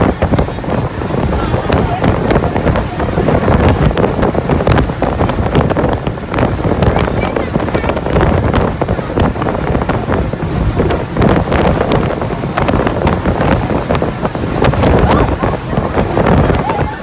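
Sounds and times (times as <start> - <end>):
water slapping against hull: 0.0 - 17.0
wind blasting microphone: 0.0 - 17.0.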